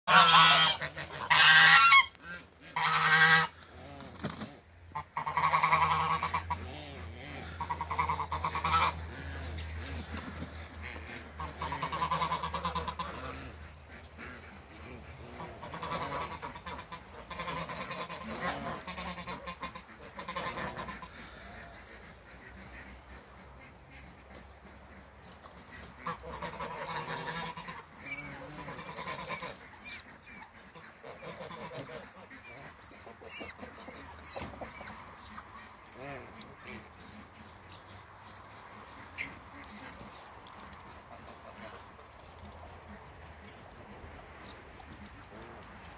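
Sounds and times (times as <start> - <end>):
geese honking: 0.0 - 45.9.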